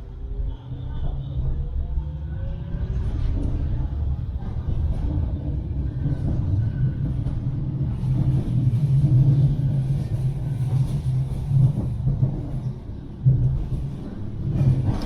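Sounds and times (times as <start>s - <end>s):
tram rumbling along track: 0.0s - 15.0s.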